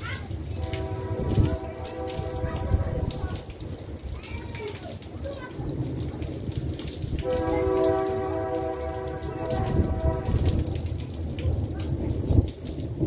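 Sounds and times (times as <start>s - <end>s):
rain falling: 0.0s - 13.0s
wind buffeting microphone: 0.6s - 4.1s, 5.6s - 13.0s.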